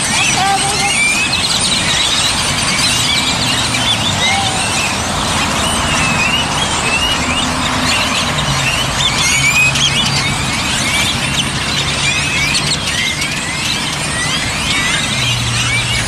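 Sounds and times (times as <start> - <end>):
flock of birds chattering: 0.0 - 16.0
road traffic: 0.0 - 16.0.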